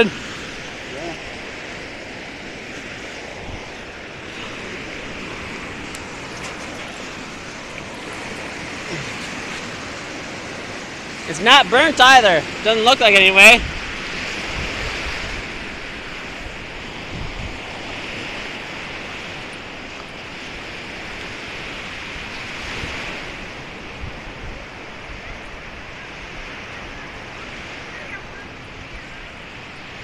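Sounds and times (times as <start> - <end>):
surf washing onto sandy beach: 0.0 - 30.0
wind buffeting microphone: 0.0 - 30.0.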